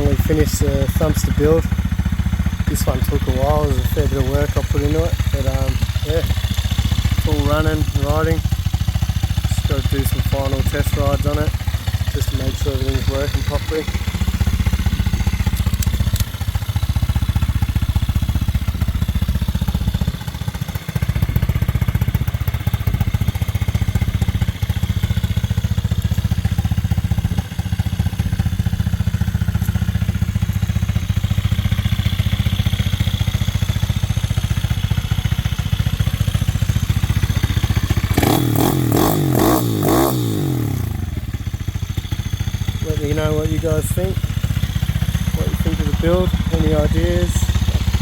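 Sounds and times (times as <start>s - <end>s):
motorbike engine revving: 0.0s - 48.0s.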